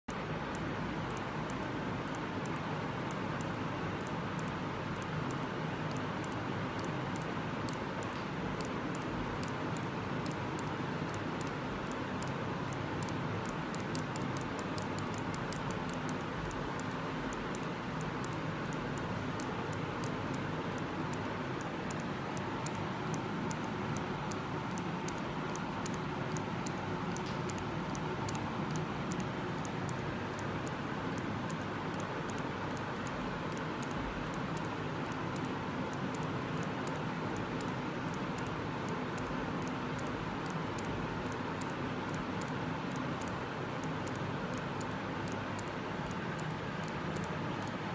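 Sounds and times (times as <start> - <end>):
steady background noise: 0.1 - 47.9
syringe mechanism clicking: 0.5 - 47.9.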